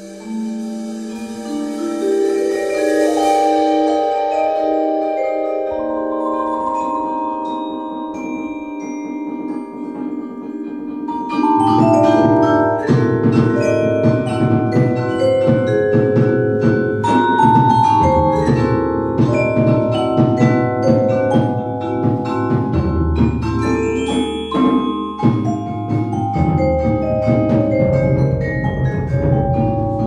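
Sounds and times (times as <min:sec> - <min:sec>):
vibraphone and marimba playing: 0:00.0 - 0:30.0.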